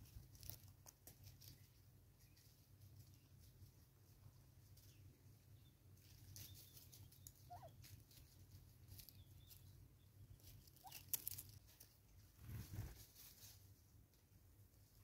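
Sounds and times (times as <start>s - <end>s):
faint ticks and rustles: 0.0s - 15.0s.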